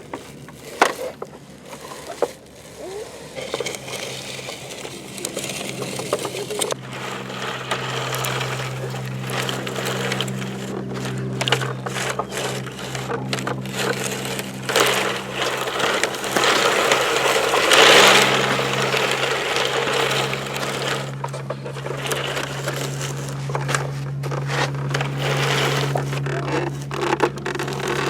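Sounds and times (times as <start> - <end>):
toy trucks scraping in sand: 0.0 - 28.0
low hum: 3.6 - 28.0.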